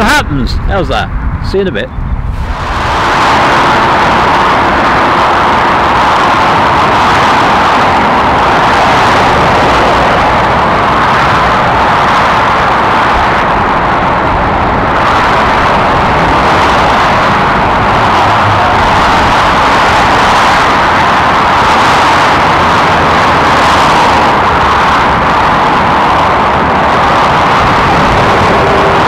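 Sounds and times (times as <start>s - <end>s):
heavy motorway traffic: 0.0s - 29.0s.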